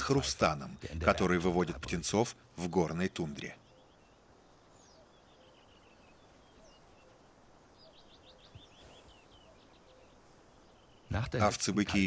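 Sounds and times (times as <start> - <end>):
faint outdoor hiss: 0.0 - 12.0
high bird calls: 0.0 - 12.0.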